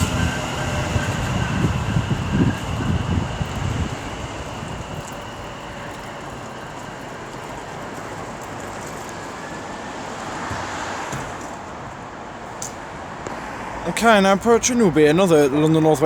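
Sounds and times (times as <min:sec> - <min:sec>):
electric train running: 0:00.0 - 0:16.0.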